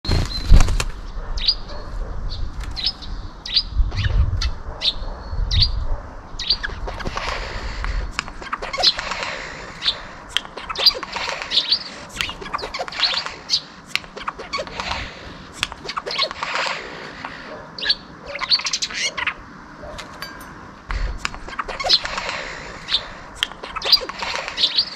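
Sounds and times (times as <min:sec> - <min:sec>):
bird chirping and rasping: 0:02.3 - 0:24.9.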